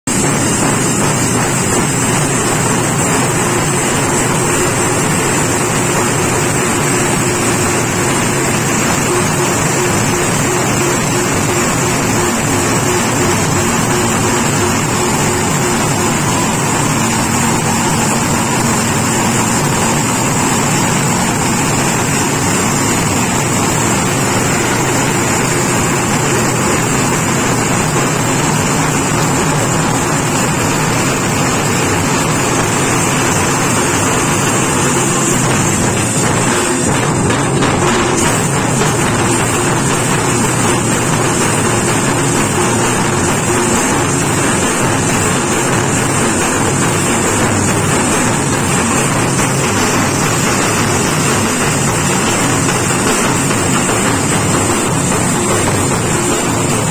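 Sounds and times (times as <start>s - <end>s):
drum band playing: 0.1s - 56.9s.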